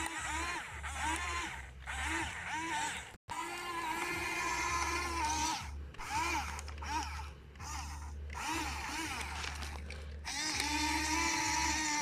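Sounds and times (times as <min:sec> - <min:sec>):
small electric motors whining: 0:00.0 - 0:12.0
steady low hum: 0:00.0 - 0:12.0.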